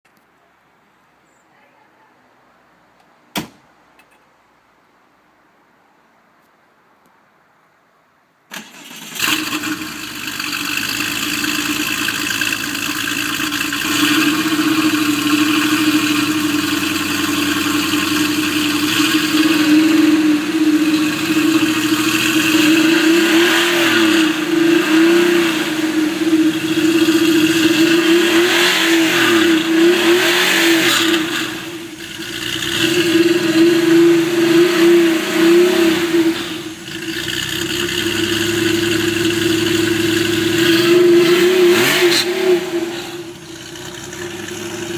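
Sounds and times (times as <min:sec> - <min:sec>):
car engine idling and revving: 0:08.6 - 0:44.9.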